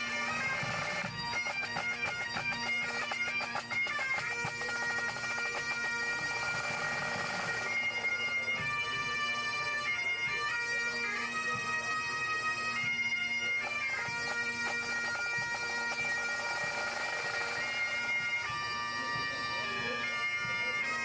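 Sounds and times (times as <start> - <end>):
bagpipes melody with drone: 0.0 - 21.0.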